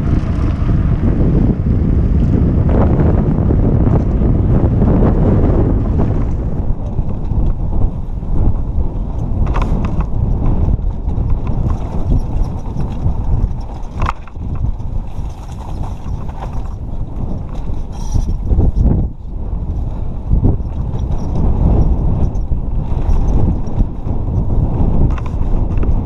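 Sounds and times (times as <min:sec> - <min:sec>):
mountain bike rattling: 0:00.0 - 0:26.0
wind buffeting microphone: 0:00.0 - 0:26.0.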